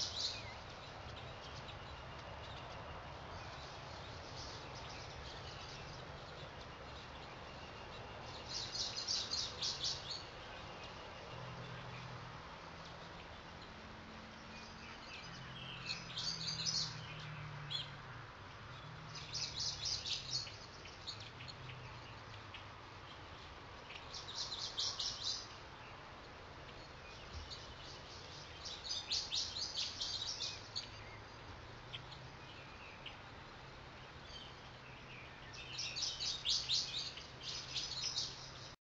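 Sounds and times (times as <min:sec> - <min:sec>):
songbirds trilling chirps: 0:00.0 - 0:38.8.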